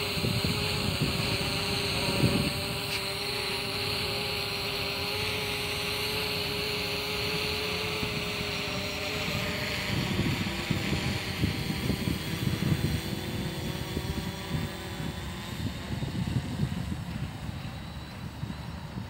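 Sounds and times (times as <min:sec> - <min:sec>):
drone propellers humming: 0:00.0 - 0:19.0
wind rumbling on microphone: 0:00.0 - 0:19.0.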